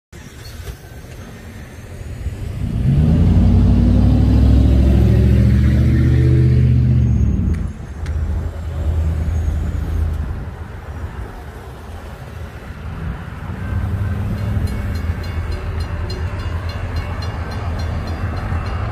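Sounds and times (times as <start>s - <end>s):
heavy engine passing: 0.2s - 18.9s.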